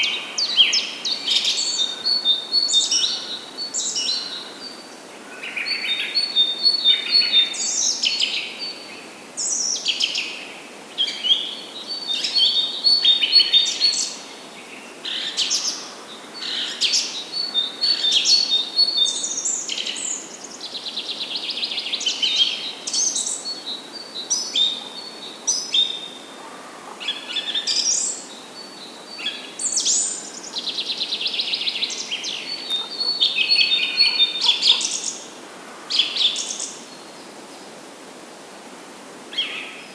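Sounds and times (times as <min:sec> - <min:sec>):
songbirds singing: 0:00.0 - 0:10.4, 0:11.0 - 0:37.7
faint steady hiss: 0:00.0 - 0:39.9.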